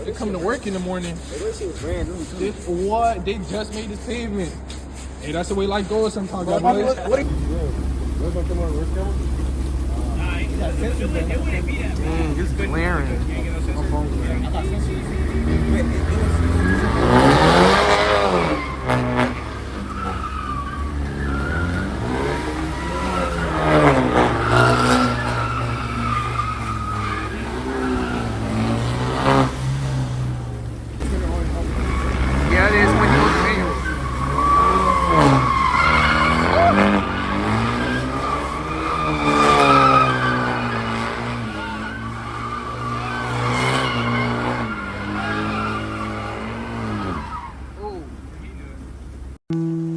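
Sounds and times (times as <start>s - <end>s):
tyres skidding and squealing: 0.0s - 49.4s
car engine revving: 0.0s - 49.9s.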